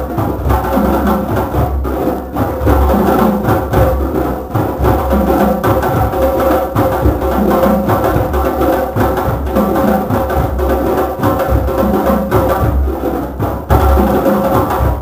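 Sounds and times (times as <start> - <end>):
hand drums playing: 0.0 - 15.0.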